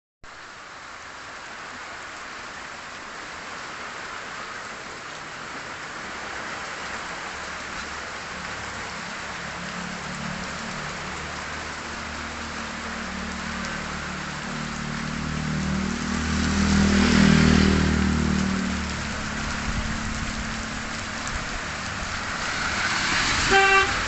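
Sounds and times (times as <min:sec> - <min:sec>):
rain hissing on surfaces: 0:00.3 - 0:24.0.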